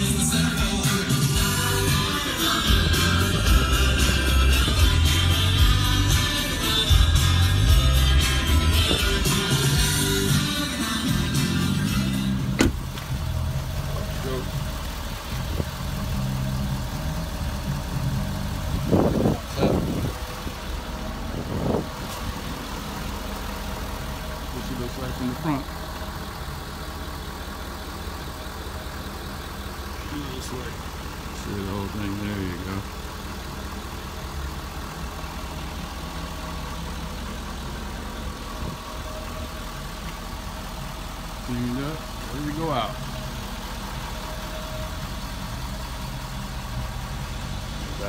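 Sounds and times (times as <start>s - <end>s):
pickup truck engine idling: 0.0s - 48.0s.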